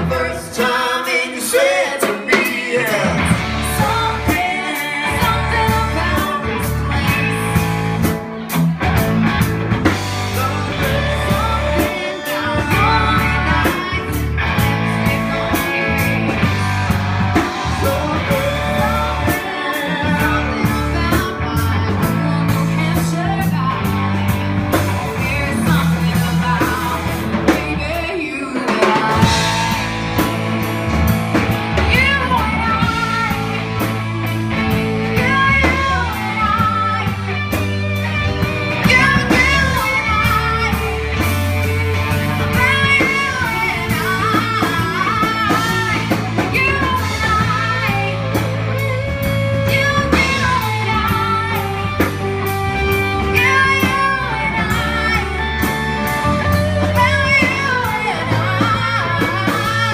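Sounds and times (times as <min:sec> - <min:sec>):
woman singing into microphone: 0:00.0 - 0:08.0, 0:10.3 - 0:16.7, 0:17.4 - 0:30.3, 0:31.8 - 0:59.9
bass guitar: 0:00.0 - 0:59.9
drums: 0:00.0 - 0:59.9
electric guitar: 0:00.0 - 0:59.9
electric keyboard: 0:02.6 - 0:59.9.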